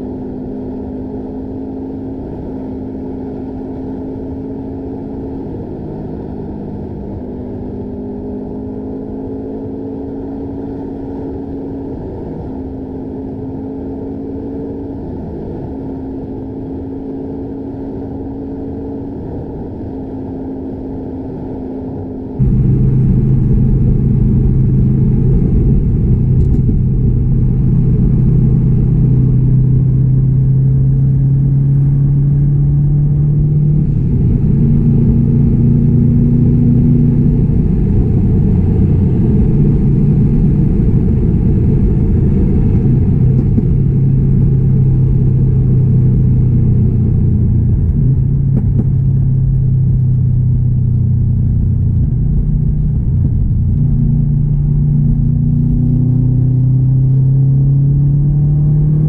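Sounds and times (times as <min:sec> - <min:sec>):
car engine and exhaust droning: 0:00.0 - 0:59.0.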